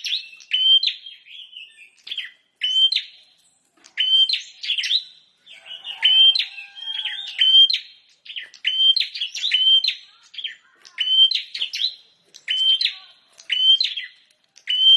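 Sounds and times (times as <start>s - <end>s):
bird chirping song: 0.0s - 14.9s.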